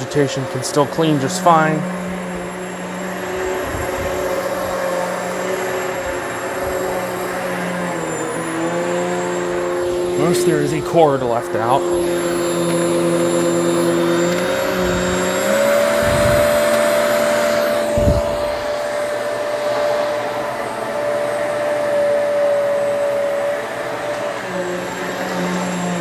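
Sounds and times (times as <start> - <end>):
upright vacuum cleaner running: 0.0 - 26.0.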